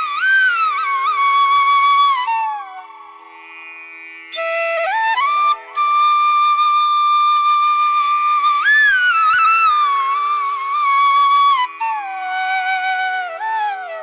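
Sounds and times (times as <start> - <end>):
flute melody: 0.0 - 3.1, 4.3 - 14.0.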